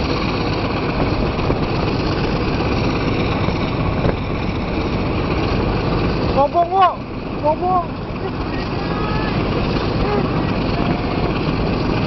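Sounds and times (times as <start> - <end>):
locomotive engine running: 0.0 - 12.0.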